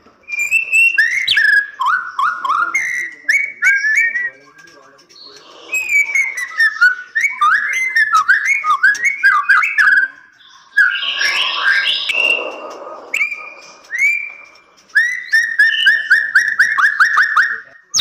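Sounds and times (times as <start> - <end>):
bird singing whistled notes: 0.2 - 18.0
bird clicking notes: 0.3 - 18.0.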